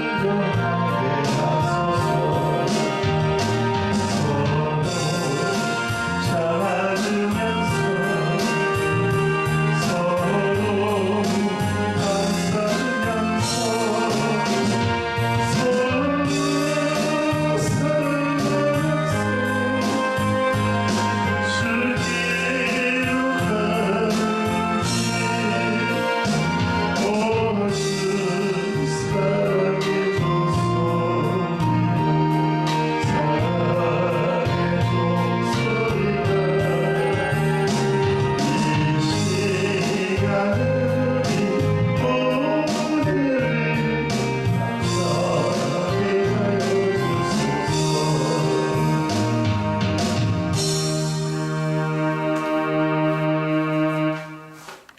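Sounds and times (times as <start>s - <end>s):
person singing worship song: 0.0s - 49.8s
instrumental accompaniment: 0.0s - 54.9s.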